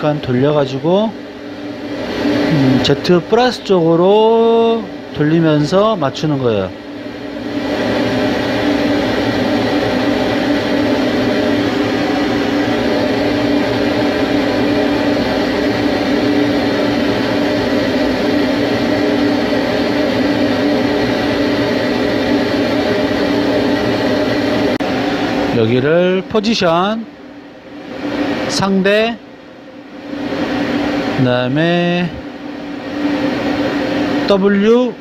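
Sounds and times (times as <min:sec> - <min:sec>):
lathe humming: 0:00.0 - 0:35.0.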